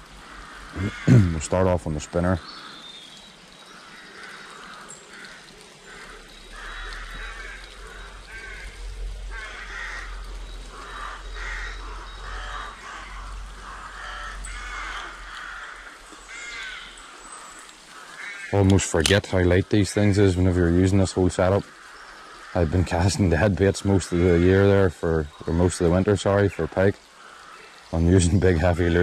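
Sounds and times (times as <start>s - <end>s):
birds calling: 0.0s - 29.0s.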